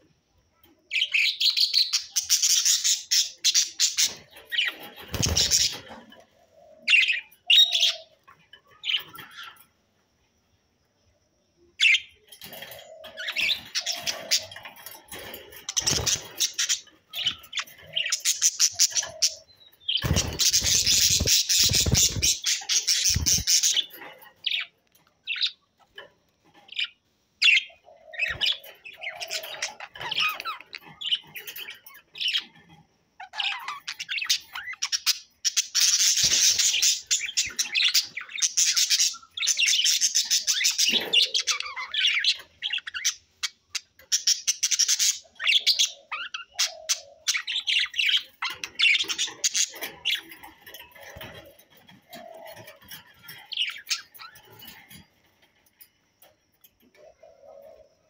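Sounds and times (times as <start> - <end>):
budgerigars chattering and chirping: 1.0 - 9.5, 11.8 - 25.6, 26.6 - 55.1.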